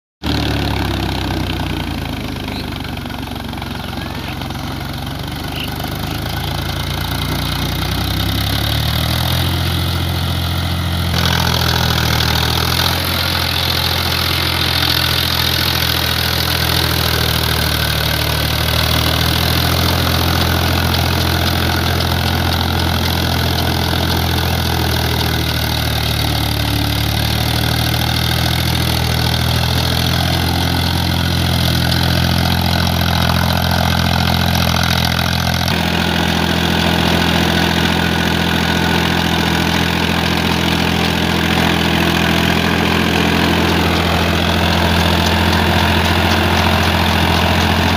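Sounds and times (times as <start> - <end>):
tractor diesel engine under load: 0.2 - 47.9.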